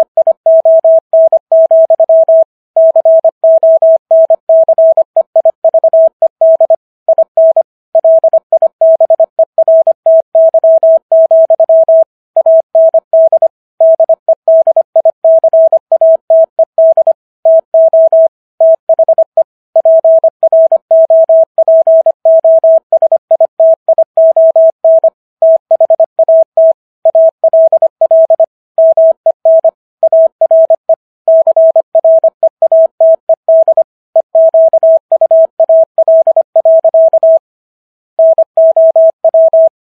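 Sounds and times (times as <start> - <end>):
morse code beeps: 0.0 - 37.5, 38.2 - 39.8.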